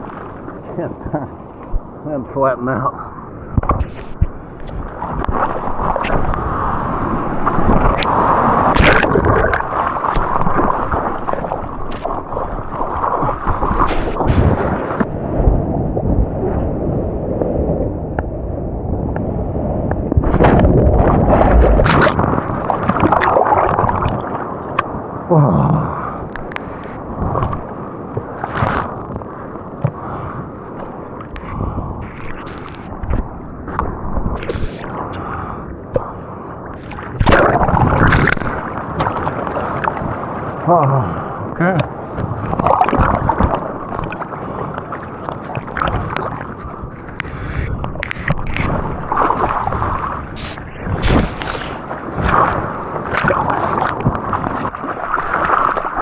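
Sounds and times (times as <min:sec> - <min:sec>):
wind buffeting microphone: 0:00.0 - 0:56.0
seawater splashing and sloshing: 0:02.9 - 0:16.7, 0:20.1 - 0:25.0, 0:26.6 - 0:36.1, 0:36.7 - 0:41.2, 0:41.8 - 0:56.0.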